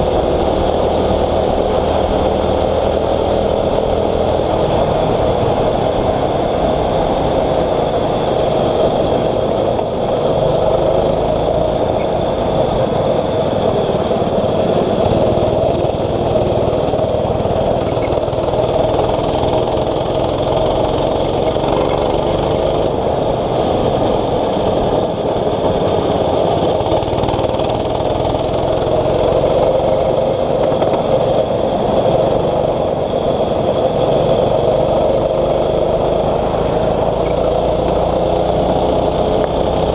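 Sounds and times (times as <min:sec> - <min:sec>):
kart engine droning: 0:00.0 - 0:39.9.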